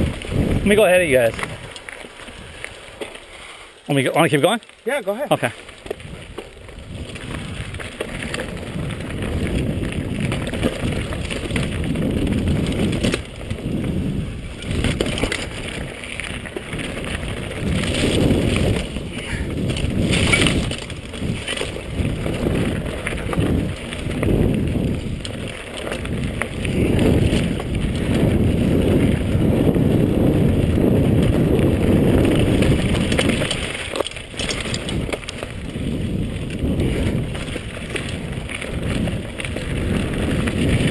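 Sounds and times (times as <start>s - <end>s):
wind rumbling on microphone: 0.0s - 3.2s, 5.3s - 40.9s
bike tyres crunching on gravel: 0.0s - 40.9s.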